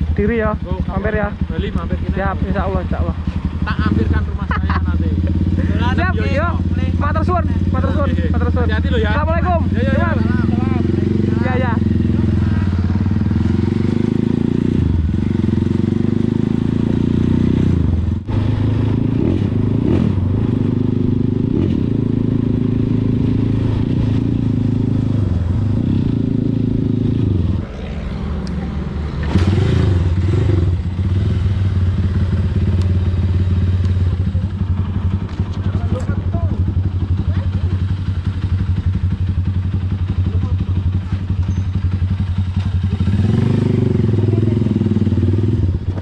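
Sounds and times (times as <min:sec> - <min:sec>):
motorcycle engine revving and idling: 0:00.0 - 0:46.0.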